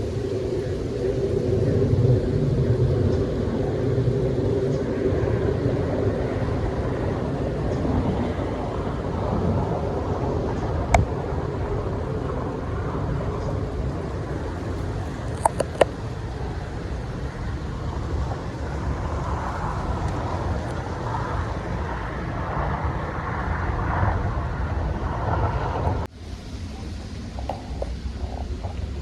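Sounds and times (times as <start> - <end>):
low continuous rumble: 0.0 - 29.0
rain: 0.0 - 29.0
wind: 0.0 - 29.0.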